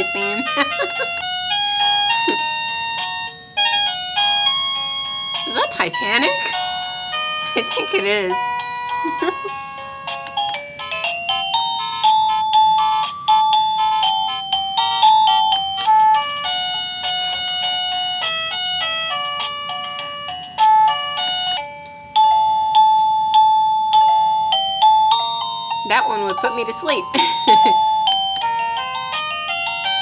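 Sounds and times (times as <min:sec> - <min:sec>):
doorbell electronic melody chime: 0:00.0 - 0:30.0.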